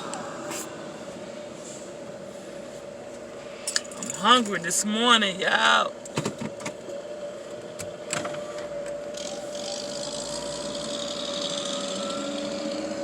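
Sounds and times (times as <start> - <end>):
car engine idling hum: 0.0 - 13.0.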